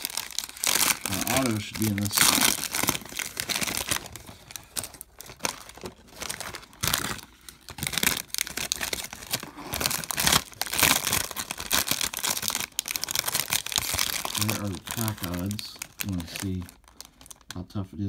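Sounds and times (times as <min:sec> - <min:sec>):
foil wrapper crinkling: 0:00.0 - 0:17.6.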